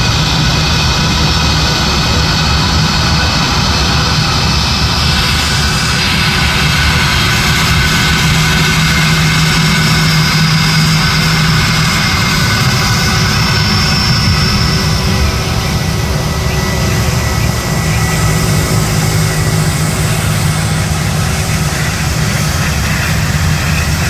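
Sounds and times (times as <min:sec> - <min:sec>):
jet engines whining: 0:00.0 - 0:24.0
low hum: 0:00.0 - 0:24.0.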